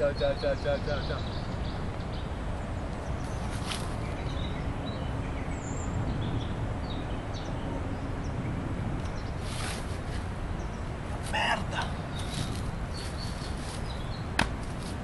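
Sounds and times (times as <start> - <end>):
steady low rumble: 0.7 - 15.0.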